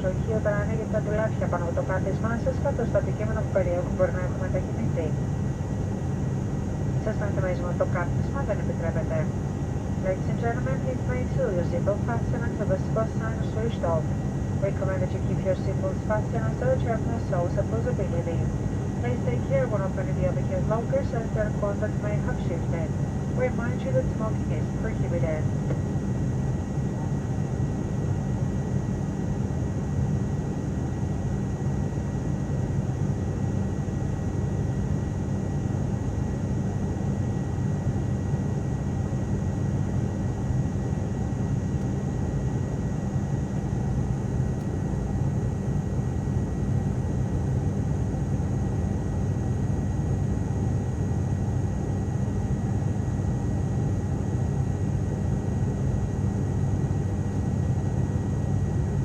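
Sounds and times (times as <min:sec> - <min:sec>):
turboprop engines humming: 0:00.0 - 0:59.0.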